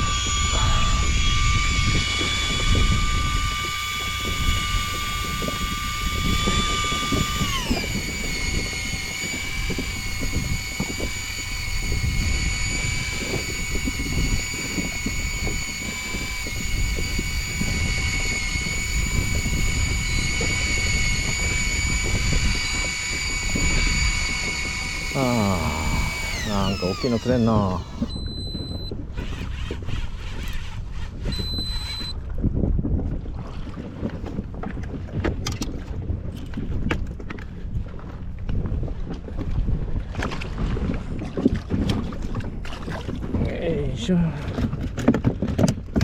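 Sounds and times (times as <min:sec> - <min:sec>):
low rumble of wind and water: 0:00.0 - 0:46.0
outboard motor running: 0:00.0 - 0:46.0.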